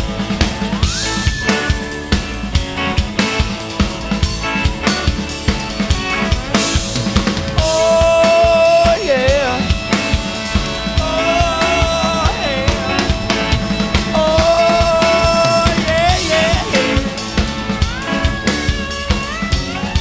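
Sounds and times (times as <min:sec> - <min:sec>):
drum kit beat: 0:00.0 - 0:20.0
lead line bending notes: 0:00.0 - 0:20.0.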